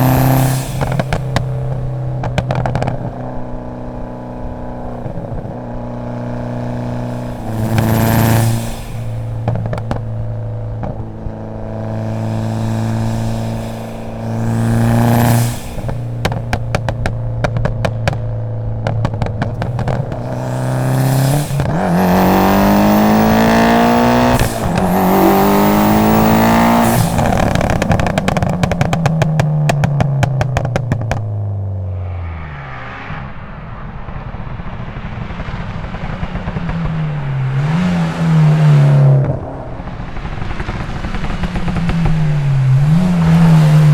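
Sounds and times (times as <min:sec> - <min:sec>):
exhaust pops and bangs: 0:00.0 - 0:31.9, 0:33.4 - 0:43.9
car engine revving: 0:00.0 - 0:43.9.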